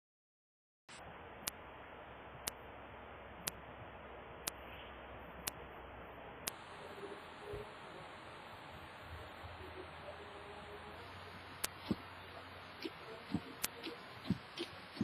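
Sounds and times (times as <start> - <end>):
faint room hum: 0.9 - 15.0.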